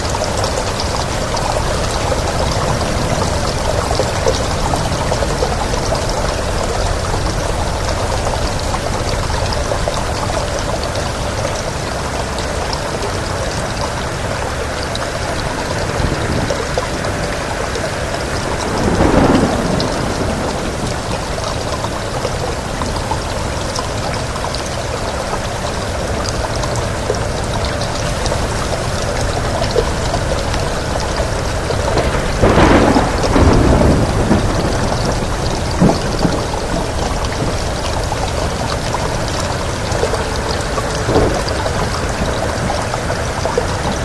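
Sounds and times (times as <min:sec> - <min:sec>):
steady rain hiss: 0:00.0 - 0:44.0.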